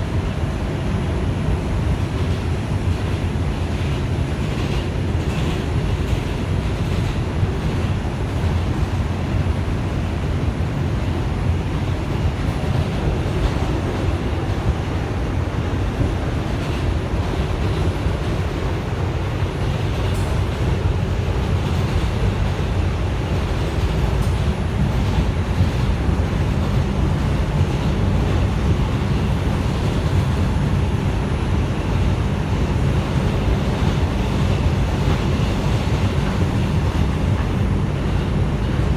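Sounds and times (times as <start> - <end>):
subway car rumbling on rails: 0.0 - 38.9.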